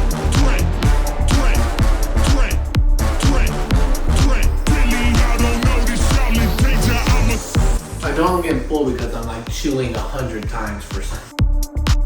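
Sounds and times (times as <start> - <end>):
rap music with deep bass: 0.0 - 12.0.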